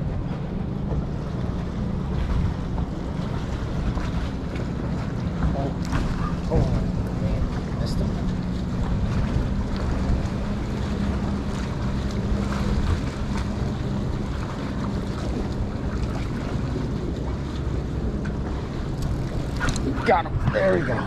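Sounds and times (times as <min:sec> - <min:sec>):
boat engine humming: 0:00.0 - 0:21.0
water washing: 0:00.0 - 0:21.0
wind buffeting microphone: 0:00.0 - 0:21.0.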